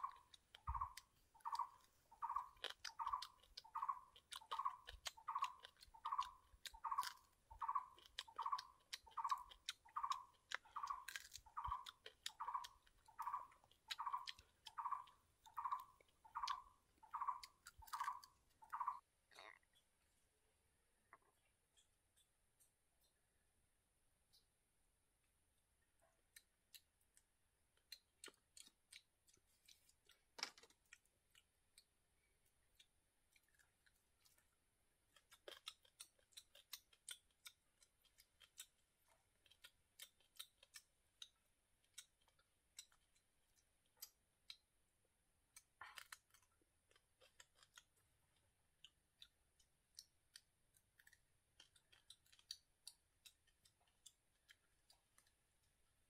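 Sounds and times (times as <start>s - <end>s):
clicks and crunches of eating: 0.0s - 19.9s, 25.2s - 56.0s.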